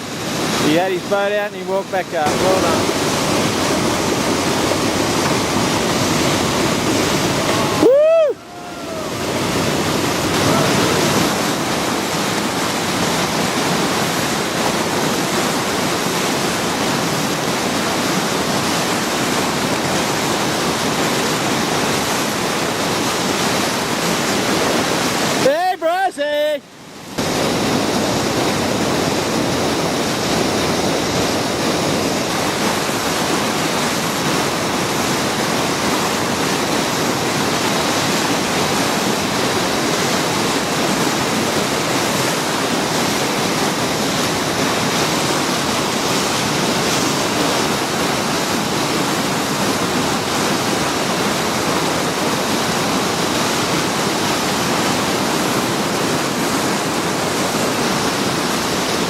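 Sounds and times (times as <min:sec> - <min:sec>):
river rapid rushing: 0:00.0 - 0:59.0.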